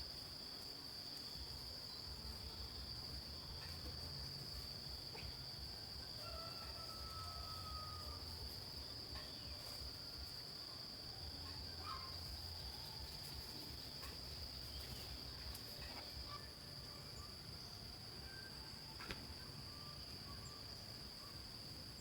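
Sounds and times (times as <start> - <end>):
faint insect drone: 0.0 - 22.0.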